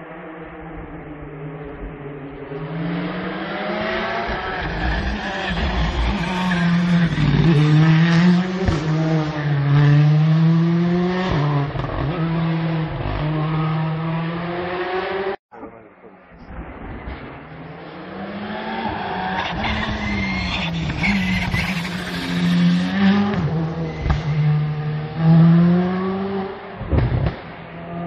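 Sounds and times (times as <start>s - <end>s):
rally car engine at full throttle: 0.0s - 28.0s.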